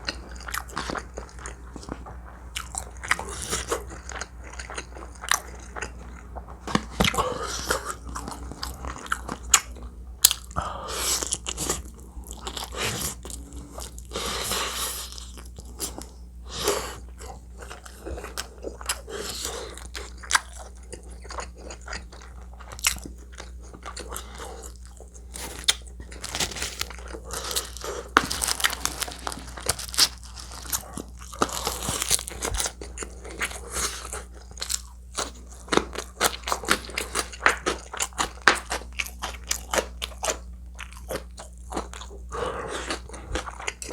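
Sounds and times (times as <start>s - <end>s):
chewing and crunching: 0.0s - 43.9s
steady low hum: 0.0s - 43.9s.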